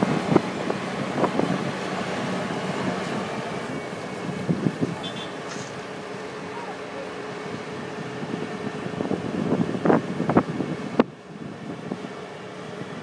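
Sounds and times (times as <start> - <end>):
wind buffeting microphone: 0.0 - 6.5, 7.4 - 13.0.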